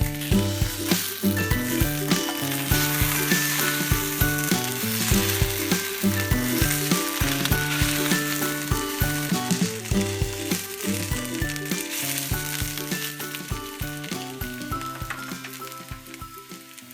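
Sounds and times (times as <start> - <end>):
music with steady beat: 0.0 - 16.9.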